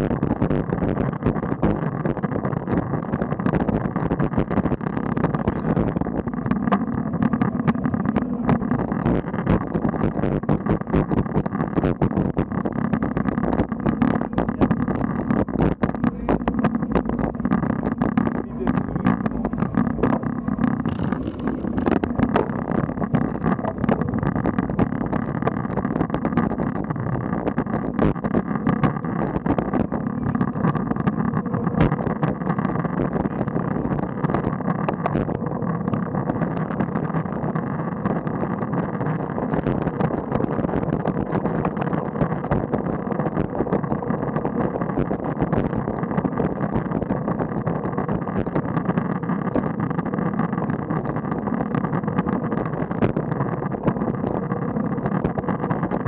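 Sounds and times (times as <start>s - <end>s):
bike tyres rolling on tarmac: 0.0s - 56.0s
wind over microphone: 0.0s - 56.0s.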